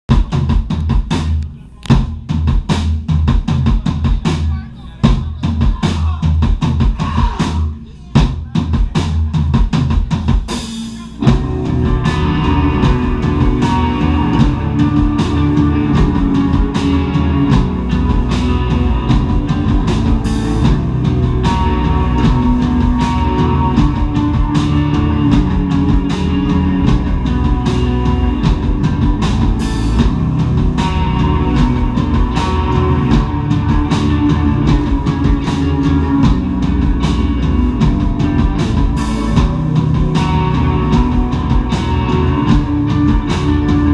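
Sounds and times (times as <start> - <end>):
bass guitar: 0.0 - 43.9
drum kit: 0.0 - 43.9
distorted electric guitars: 0.1 - 43.9.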